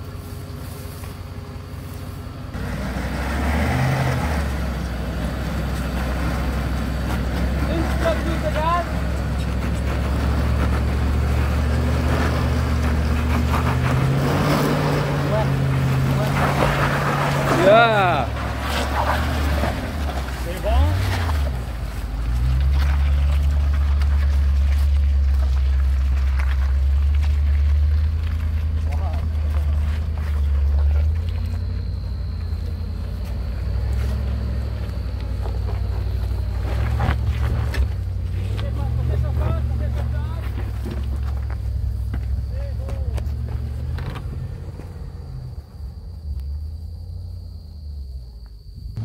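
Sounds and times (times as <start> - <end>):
truck engine at low revs: 0.0 - 49.0
crunching footsteps: 4.7 - 45.0.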